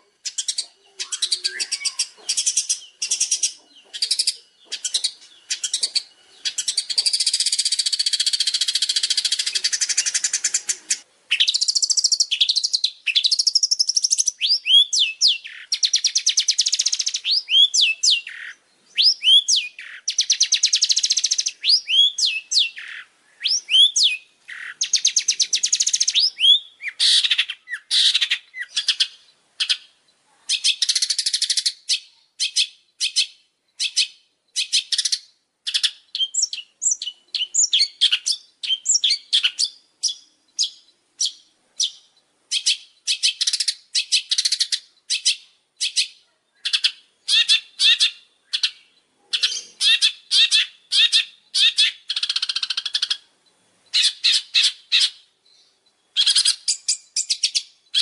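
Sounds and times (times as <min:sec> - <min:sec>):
shrike singing chattering song: 0:00.0 - 0:58.0.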